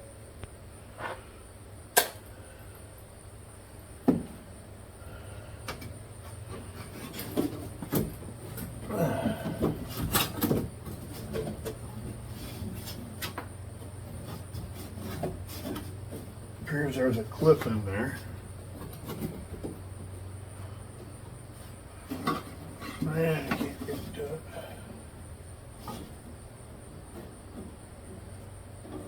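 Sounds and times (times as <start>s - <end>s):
steady low hum: 0.0s - 29.0s
clattering and scraping: 5.7s - 29.0s.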